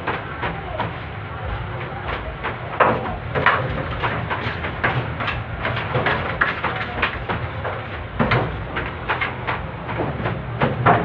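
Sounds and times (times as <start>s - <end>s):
steady low hum: 0.0s - 11.0s
hands knocking dough in steel trough: 1.7s - 11.0s.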